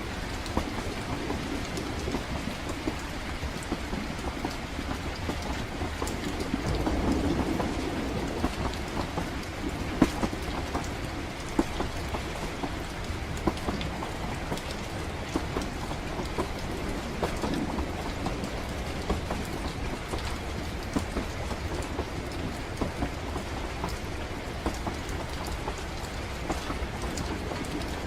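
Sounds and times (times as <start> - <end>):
rain falling: 0.0 - 28.0
train carriage rumbling: 0.0 - 28.0.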